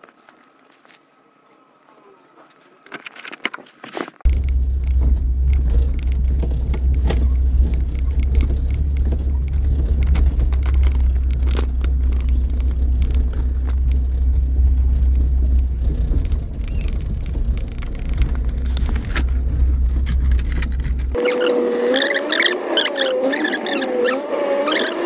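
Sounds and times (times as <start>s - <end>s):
car engine and tyres rumbling: 4.2s - 25.0s.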